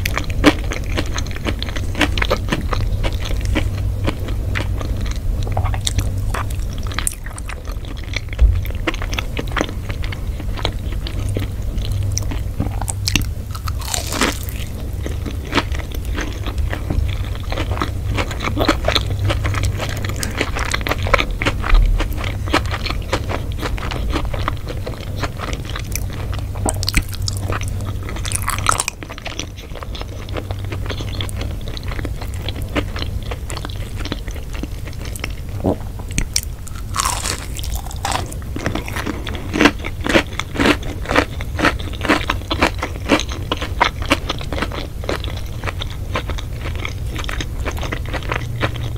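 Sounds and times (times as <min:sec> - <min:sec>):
chewing crunchy food: 0:00.0 - 0:48.9
low steady hum: 0:00.0 - 0:48.9.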